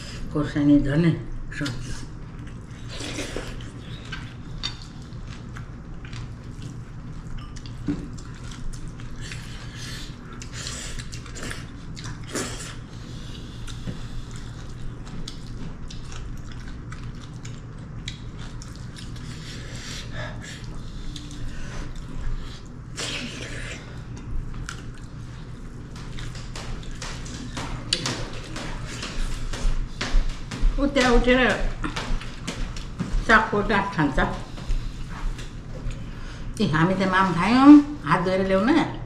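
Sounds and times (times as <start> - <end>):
steady low hum: 0.0 - 39.0
people chewing: 1.6 - 30.7, 34.4 - 36.6.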